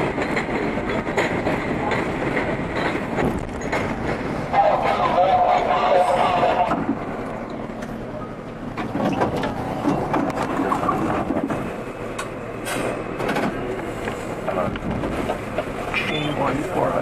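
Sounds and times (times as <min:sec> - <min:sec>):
wheels clicking over rail joints: 0:00.0 - 0:05.1, 0:06.6 - 0:16.9
subway train rumbling: 0:00.0 - 0:17.0.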